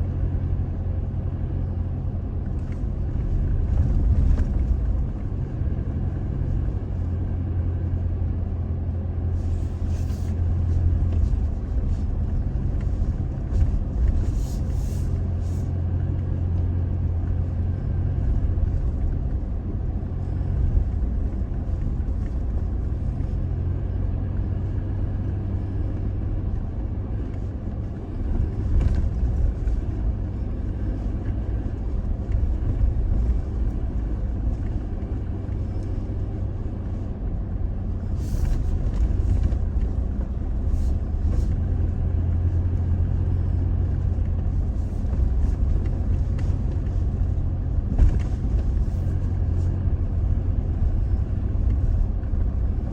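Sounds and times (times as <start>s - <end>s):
pickup truck engine rumble: 0.0s - 52.9s.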